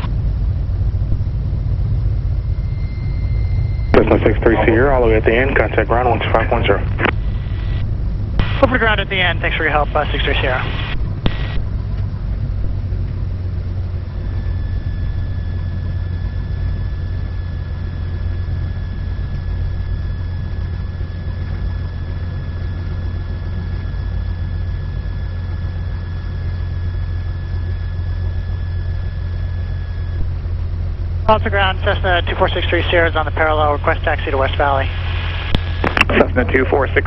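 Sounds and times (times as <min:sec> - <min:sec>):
piston engine low drone: 0:00.0 - 0:37.0
thin high whine: 0:00.0 - 0:37.0.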